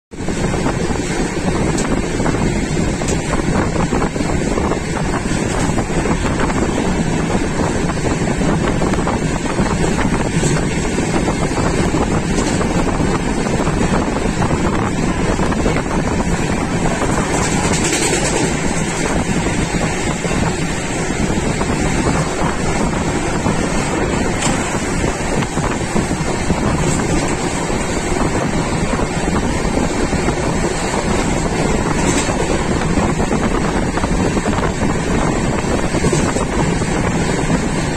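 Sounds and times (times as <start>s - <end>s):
train running rumble: 0.0s - 37.9s
wind buffeting microphone: 0.1s - 37.9s.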